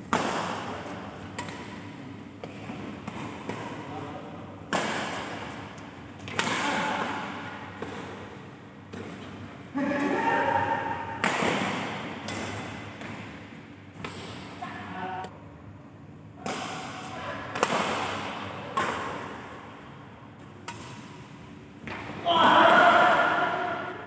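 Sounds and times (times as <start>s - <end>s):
racket hitting shuttlecock: 0.0s - 3.9s, 4.7s - 9.4s, 10.0s - 14.5s, 16.4s - 19.6s, 20.4s - 24.0s.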